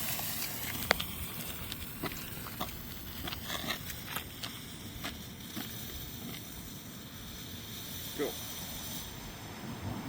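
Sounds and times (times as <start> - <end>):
fuse clicks and crackles: 0.0 - 8.6
faint fuse hiss: 0.0 - 10.0.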